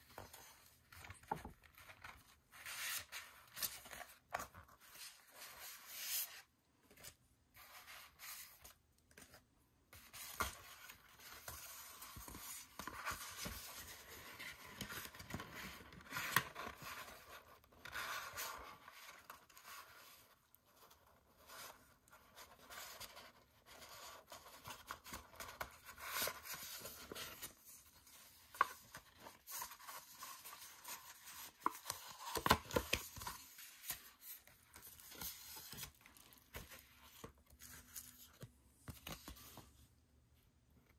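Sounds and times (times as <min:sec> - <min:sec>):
paper pages rustling: 0:00.0 - 0:39.8.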